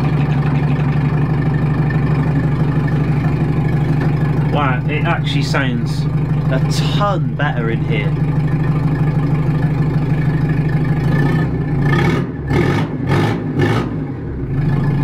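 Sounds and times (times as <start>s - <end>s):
diesel engine idling: 0.0s - 12.6s, 14.0s - 15.0s.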